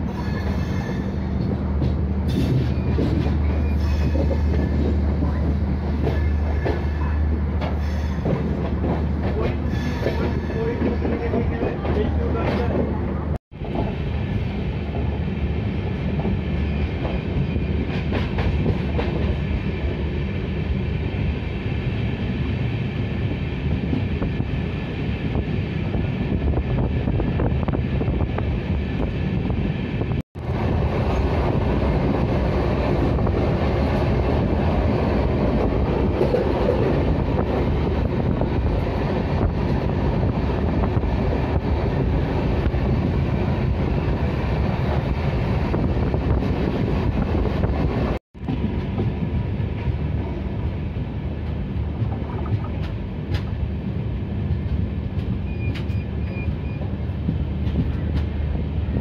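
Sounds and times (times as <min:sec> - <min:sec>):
moving train running noise: 0:00.0 - 0:59.0.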